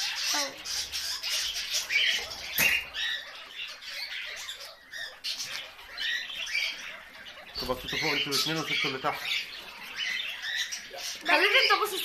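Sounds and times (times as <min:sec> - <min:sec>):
guinea pigs squeaking: 0:00.0 - 0:12.0.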